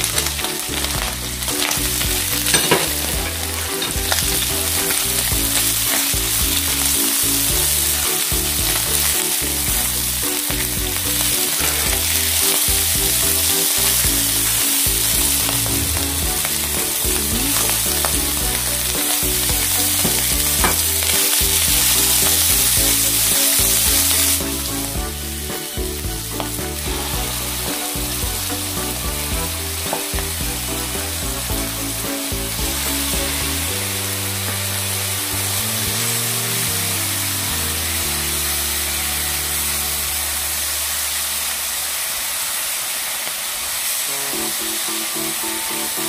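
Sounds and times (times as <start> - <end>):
food sizzling in a frying pan: 0.0 - 46.0.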